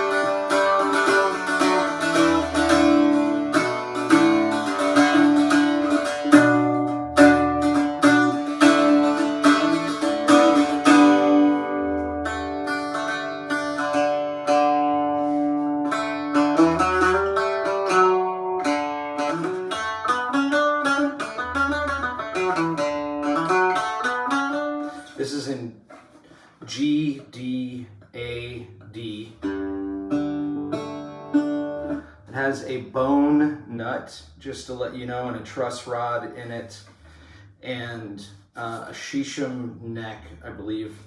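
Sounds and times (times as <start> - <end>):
bouzouki strummed and picked: 0.0 - 27.4, 28.3 - 38.0.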